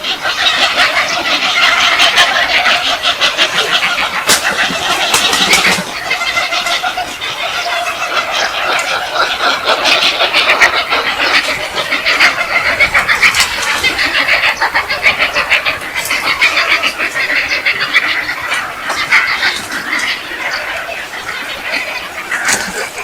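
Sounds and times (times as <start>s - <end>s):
many birds chattering: 0.0s - 23.0s.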